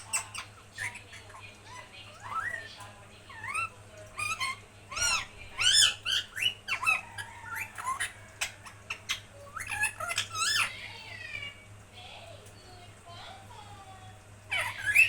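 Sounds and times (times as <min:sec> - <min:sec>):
parrot squawking: 0:00.0 - 0:11.6, 0:14.5 - 0:15.0.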